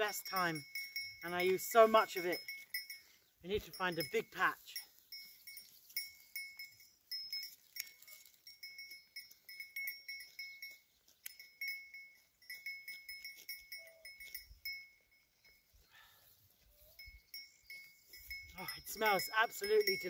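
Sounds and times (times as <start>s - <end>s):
goat bell clinking: 0.0s - 20.0s.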